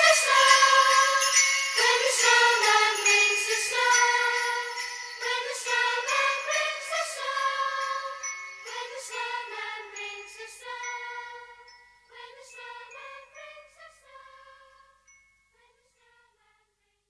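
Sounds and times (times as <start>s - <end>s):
music with jingling bells: 0.0s - 17.0s.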